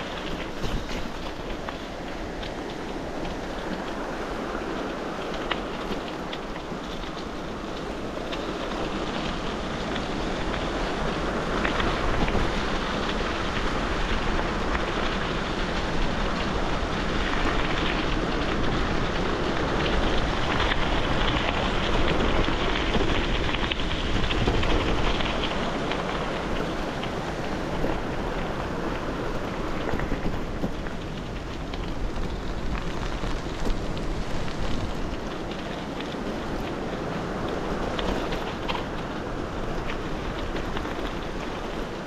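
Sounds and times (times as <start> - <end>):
bicycle tyres on gravel: 0.0 - 42.0
wind buffeting microphone: 0.0 - 42.0.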